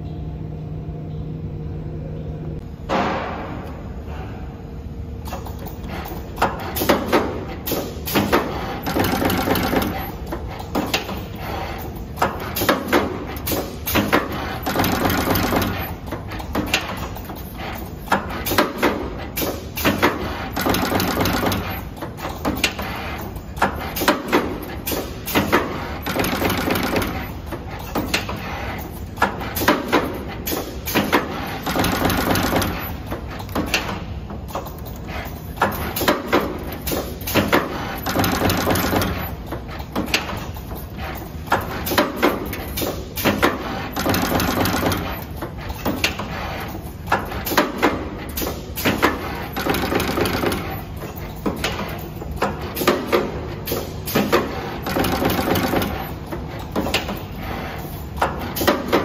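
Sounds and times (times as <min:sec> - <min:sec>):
machine whirring: 0:04.8 - 0:59.0
machine clacks and clicks: 0:05.2 - 0:59.0.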